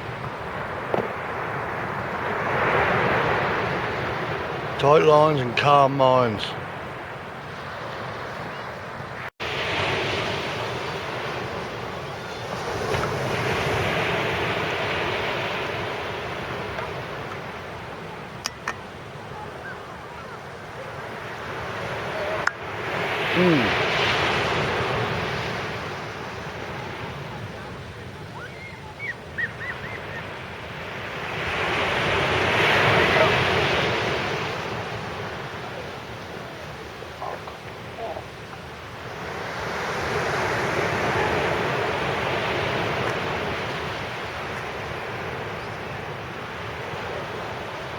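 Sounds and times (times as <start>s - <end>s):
waves breaking on shingle beach: 0.0s - 47.9s.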